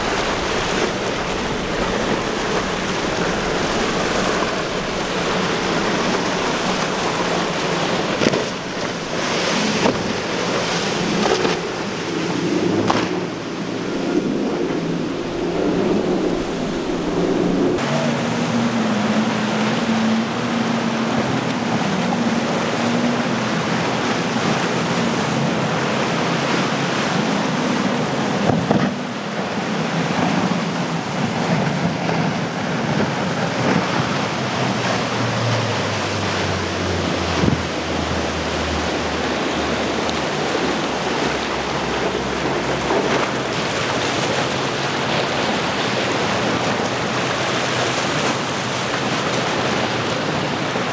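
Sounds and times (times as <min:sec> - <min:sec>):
hiss of spray and wake: 0:00.0 - 0:50.9
outboard engines droning: 0:00.0 - 0:50.9.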